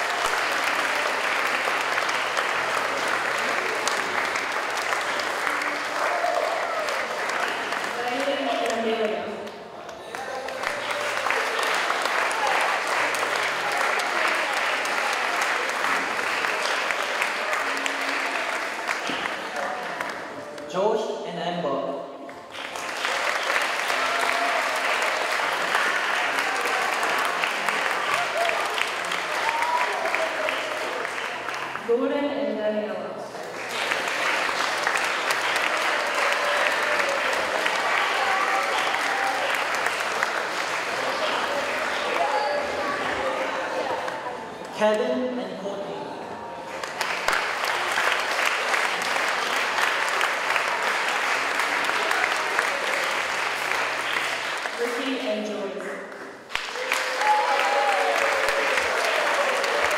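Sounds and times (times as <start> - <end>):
audience clapping: 0.0 - 20.7, 22.3 - 32.1, 33.3 - 45.0, 46.6 - 59.9
voices in crowd: 0.0 - 59.9.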